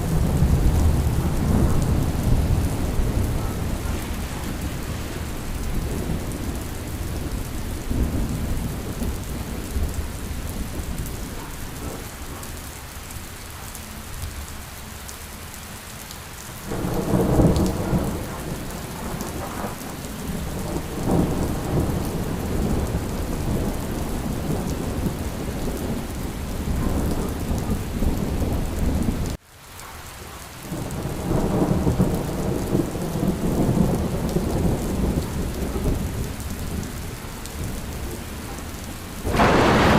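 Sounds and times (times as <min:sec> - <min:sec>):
rolling thunder: 0:00.0 - 0:12.4, 0:16.6 - 0:29.4, 0:30.7 - 0:39.9
steady rain: 0:00.0 - 0:39.9.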